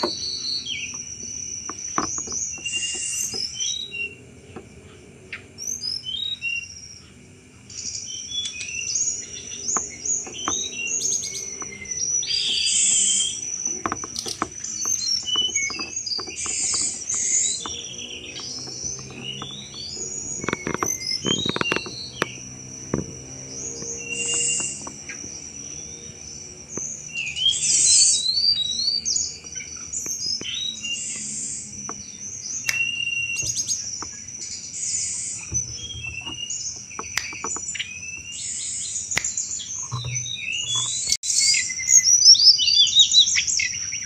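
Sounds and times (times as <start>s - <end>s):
high insect trill: 0.0s - 44.0s
songbird chirping and clicking: 0.0s - 44.0s.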